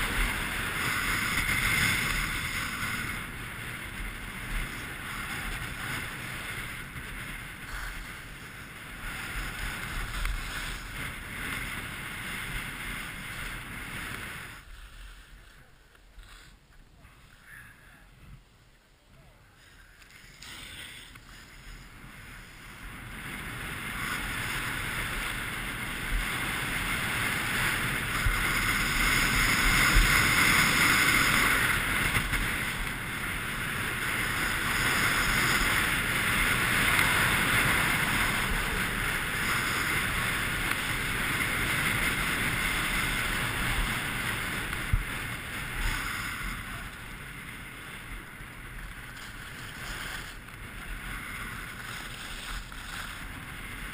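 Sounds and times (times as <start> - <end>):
wind rushing over microphone: 0.0 - 16.3, 19.8 - 53.9
skis scraping over snow: 0.0 - 18.4, 19.2 - 53.9.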